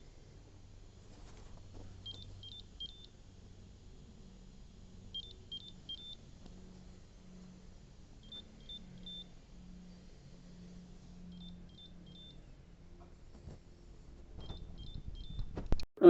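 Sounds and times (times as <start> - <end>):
faint low hum: 0.0 - 15.8.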